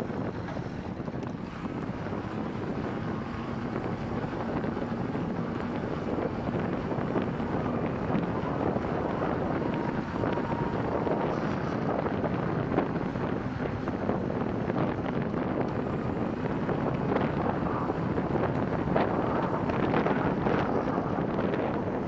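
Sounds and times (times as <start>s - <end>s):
bicycle tyres on asphalt: 0.0s - 22.0s
wind noise on microphone: 0.0s - 22.0s.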